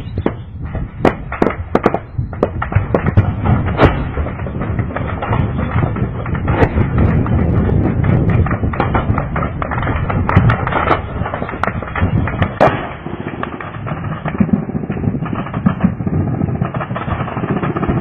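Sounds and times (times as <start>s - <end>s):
explosions thudding: 0.0s - 18.0s
low rumble: 0.0s - 18.0s
gunfire cracks: 0.2s - 18.0s.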